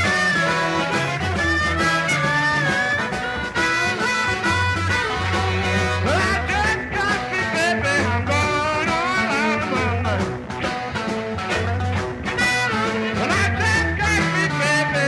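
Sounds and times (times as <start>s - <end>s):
bending lead melody: 0.0s - 15.0s
live blues-rock band: 0.0s - 15.0s
steady bass line: 0.0s - 15.0s.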